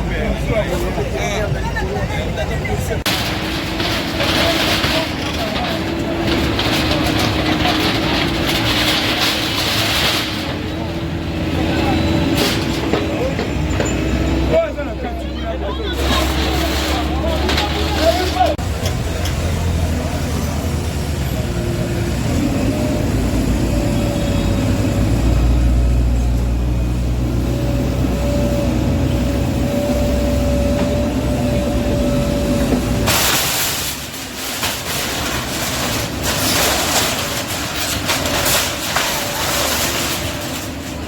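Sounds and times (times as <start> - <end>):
heavy diesel engine rumbling: 0.0 - 41.0.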